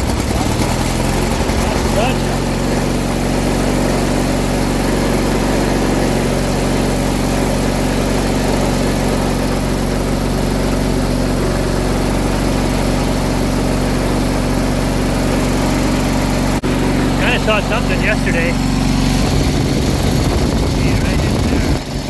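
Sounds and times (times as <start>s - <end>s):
garden tractor engine idling: 0.0s - 22.0s.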